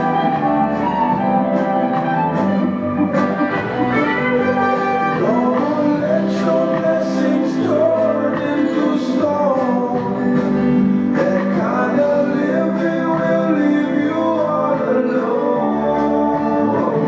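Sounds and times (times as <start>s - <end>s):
recorded song with pitch-bending instruments: 0.0s - 17.0s.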